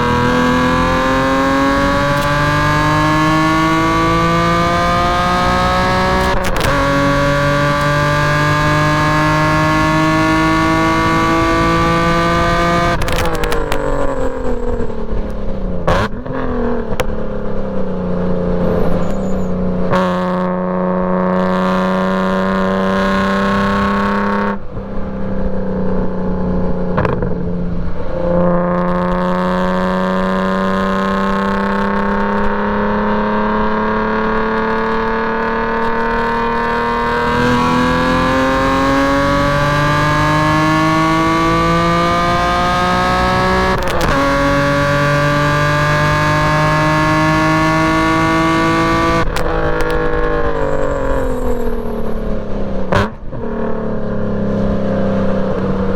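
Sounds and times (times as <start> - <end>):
car engine revving: 0.0 - 55.9
engine blips on downshifts: 0.0 - 55.9.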